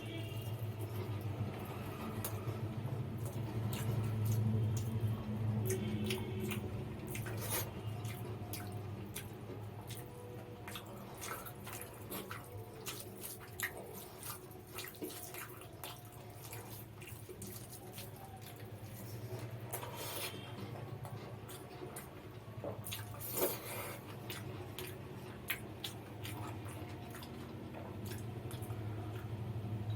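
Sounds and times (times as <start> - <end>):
wet chewing and mouth smacks: 0.1 - 29.9.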